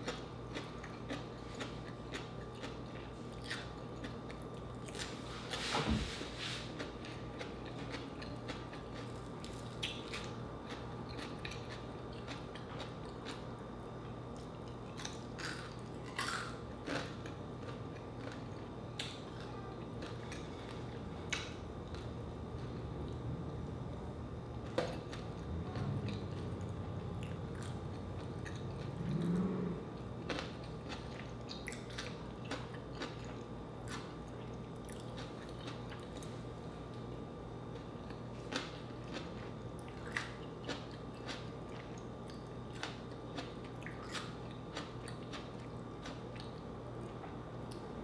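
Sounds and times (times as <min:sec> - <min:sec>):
chewing and crunching food: 0:00.0 - 0:05.6, 0:06.4 - 0:48.0.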